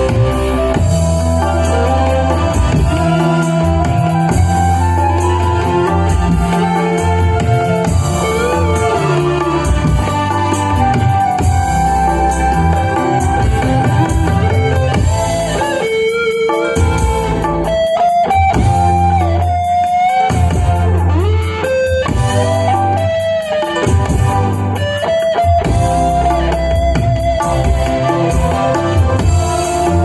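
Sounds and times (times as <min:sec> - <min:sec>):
band music over sound system: 0:00.0 - 0:30.0
electric guitar melody: 0:00.0 - 0:30.0.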